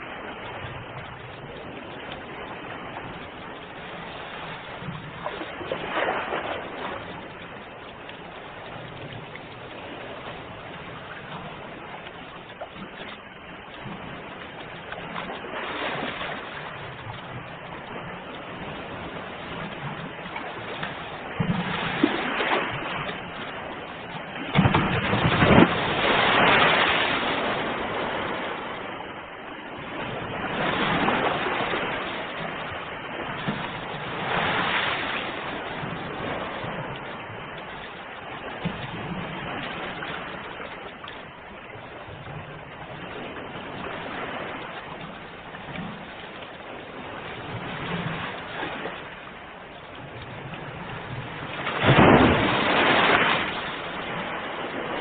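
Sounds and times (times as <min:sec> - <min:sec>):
ocean waves surf: 0:00.0 - 0:55.0
wave breaking: 0:00.0 - 0:55.0.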